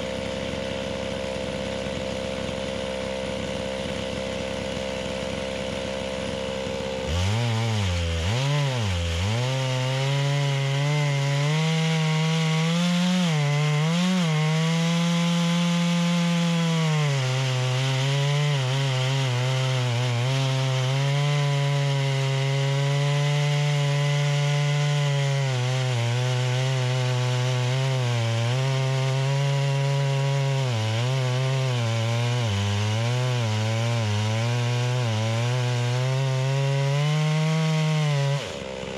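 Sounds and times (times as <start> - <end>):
chainsaw ripping a log: 0.0 - 38.9.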